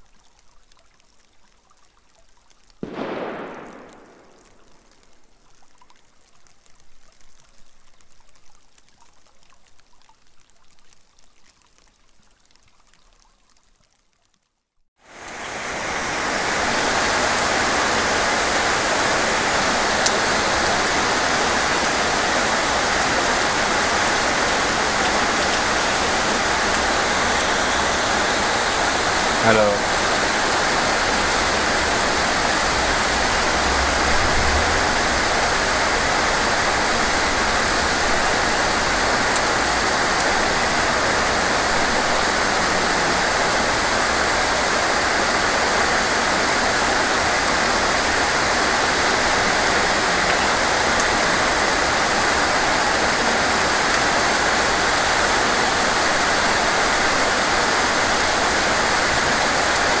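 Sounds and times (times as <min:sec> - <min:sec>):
steady rain hiss: 0:00.0 - 0:12.6, 0:15.0 - 1:00.0.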